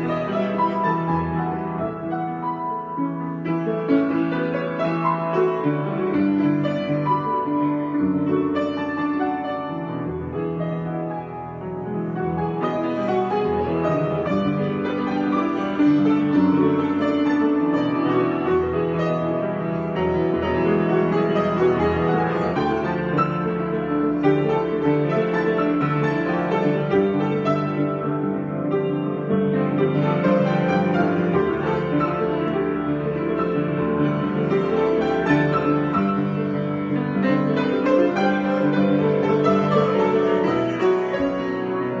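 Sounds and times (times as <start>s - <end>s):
piano improvisation: 0.0s - 42.0s.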